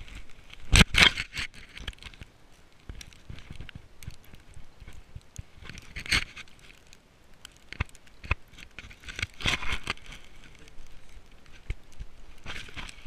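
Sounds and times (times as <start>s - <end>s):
scraping and rustling: 0.0s - 7.0s, 7.6s - 13.0s.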